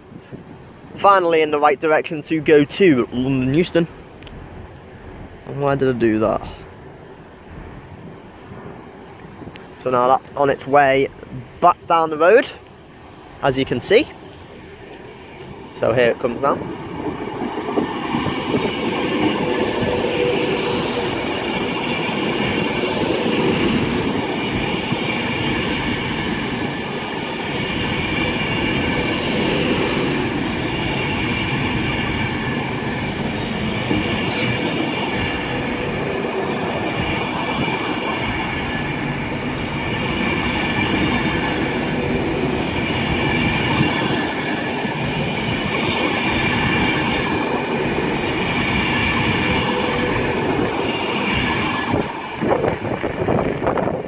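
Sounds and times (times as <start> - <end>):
high train whine: 0.0 - 54.0
train wheels rumbling on rail: 0.0 - 54.0.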